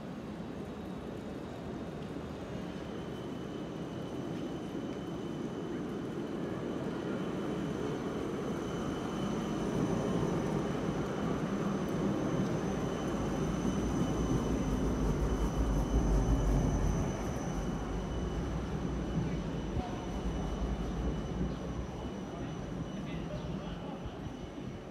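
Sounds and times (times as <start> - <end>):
tram rolling rumble: 0.0 - 24.9
faint high whine: 0.1 - 24.9.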